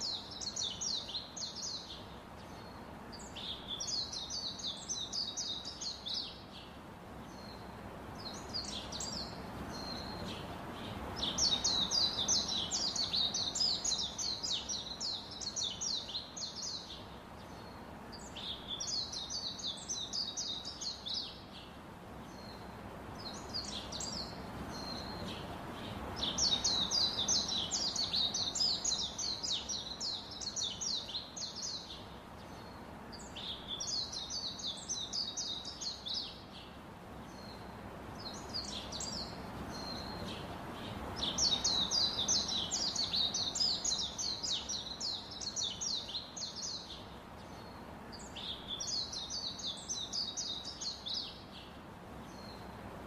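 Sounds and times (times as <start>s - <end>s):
low background hiss: 0.0s - 53.0s.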